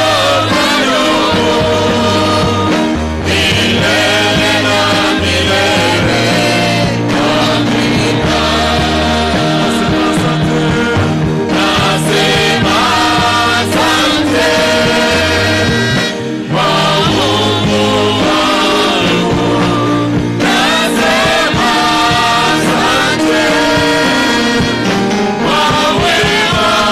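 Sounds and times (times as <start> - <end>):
gospel singing with band: 0.0 - 26.9.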